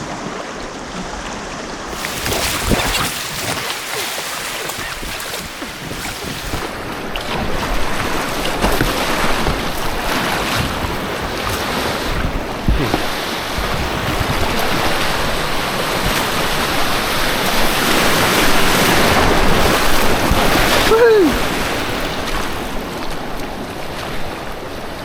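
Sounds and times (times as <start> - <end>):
rushing white water: 1.4 - 25.0
wind buffeting microphone: 1.8 - 25.0.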